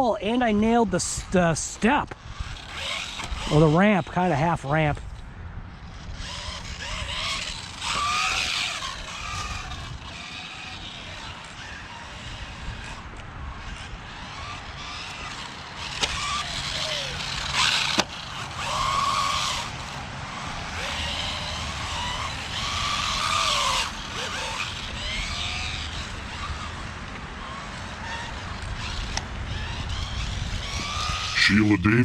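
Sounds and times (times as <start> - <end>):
electric motor whining: 0.0 - 32.0
tyre and ground noise: 0.0 - 32.0.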